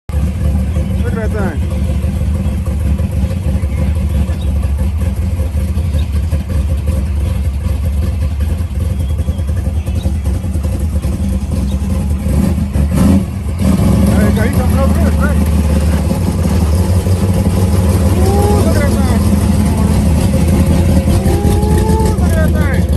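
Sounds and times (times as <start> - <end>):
car engine running steadily: 0.1 - 22.9.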